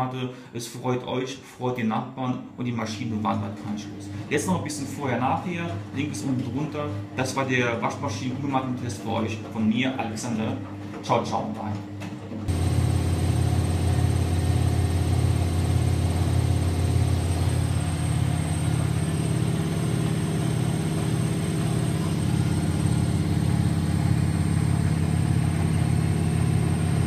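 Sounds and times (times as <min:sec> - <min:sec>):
washing machine spinning: 0:04.3 - 0:27.0.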